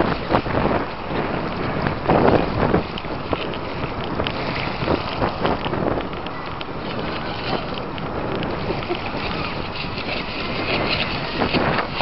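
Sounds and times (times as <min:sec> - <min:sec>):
model speedboat running fast: 0:00.0 - 0:12.0
wind noise on microphone: 0:00.0 - 0:12.0.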